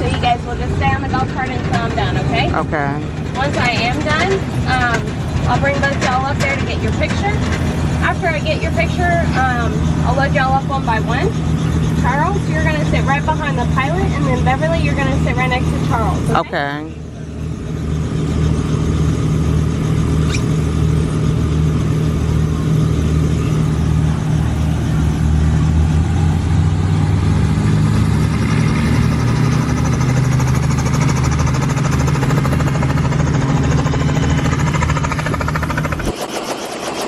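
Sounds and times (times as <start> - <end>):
helicopter rotor pulsing: 0.0 - 37.0.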